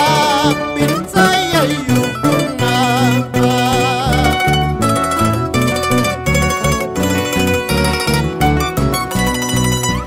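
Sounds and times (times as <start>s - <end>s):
mandolin playing: 0.0s - 10.0s
string band music: 0.0s - 10.0s.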